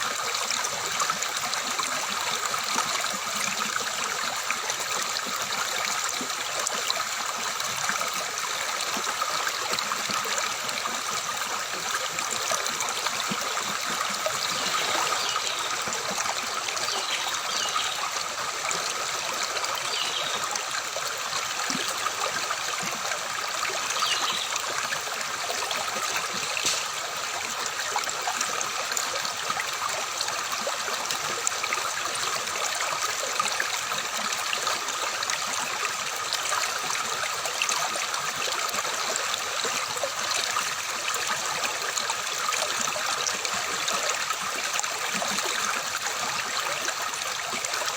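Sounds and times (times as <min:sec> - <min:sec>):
stream water flowing: 0:00.0 - 0:47.9.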